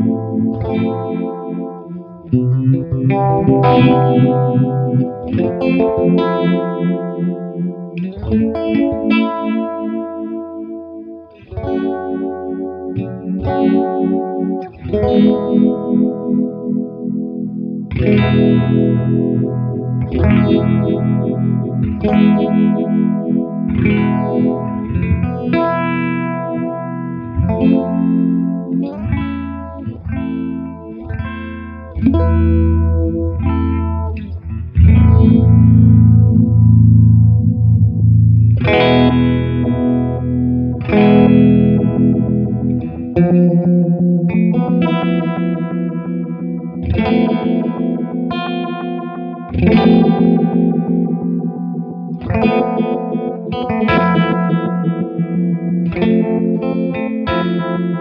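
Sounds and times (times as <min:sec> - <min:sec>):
electric guitar chords with phaser: 0:00.0 - 0:58.0.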